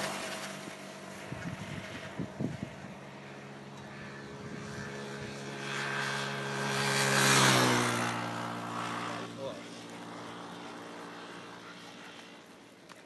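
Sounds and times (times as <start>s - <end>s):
motorcycle passing: 0.0s - 13.0s.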